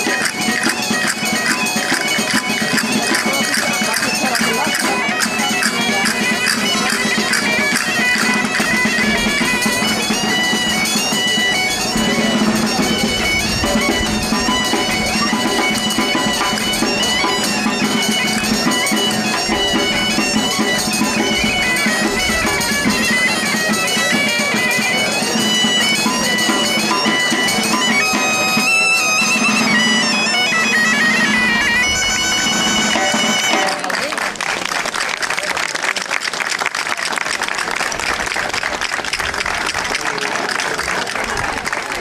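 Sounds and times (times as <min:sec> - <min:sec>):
bagpipe playing a tune: 0:00.0 - 0:33.9.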